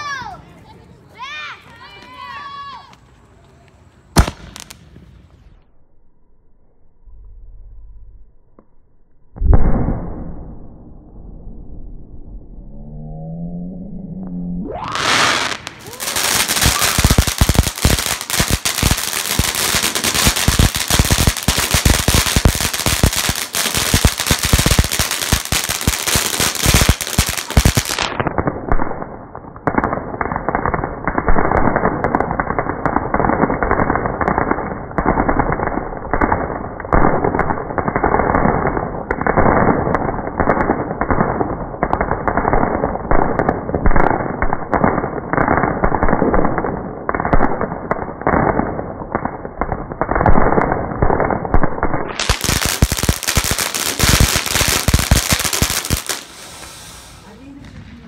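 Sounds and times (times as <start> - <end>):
firecrackers and fireworks popping: 0.9 - 5.7, 14.6 - 58.0.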